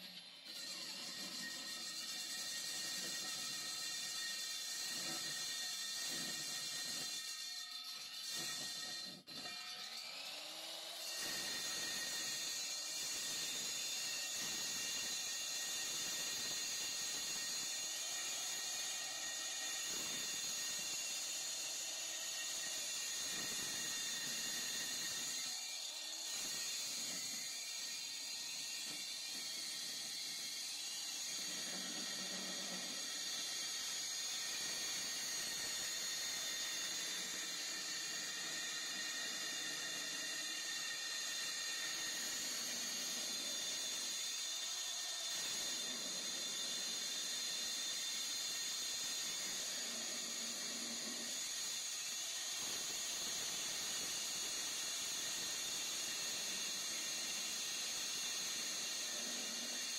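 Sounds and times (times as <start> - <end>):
core drill cutting through wall: 0.0 - 59.9.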